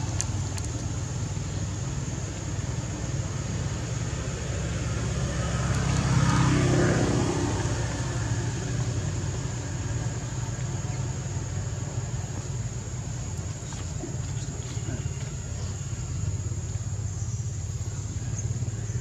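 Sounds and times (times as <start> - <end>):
low engine-like rumble: 0.0 - 19.0.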